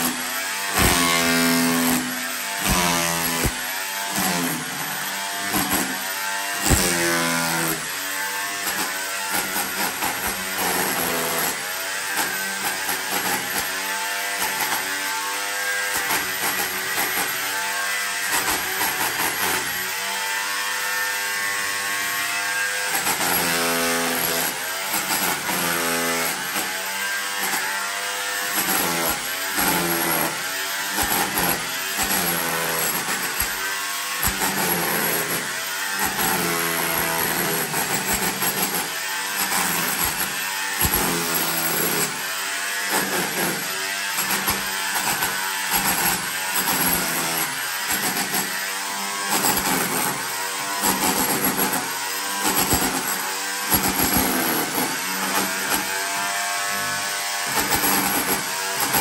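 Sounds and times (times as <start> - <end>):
hammer drill chipping plaster: 0.0 - 59.0.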